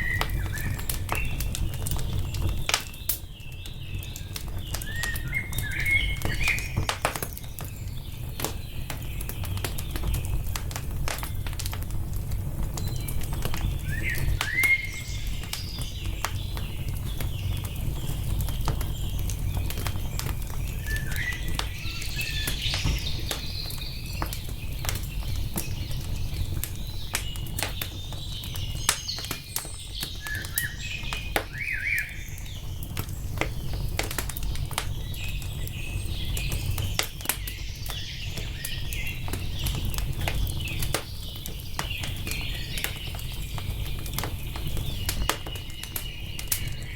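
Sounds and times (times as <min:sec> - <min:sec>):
songbirds chirping: 0:00.0 - 0:46.9
wood fire crackling: 0:00.0 - 0:46.9.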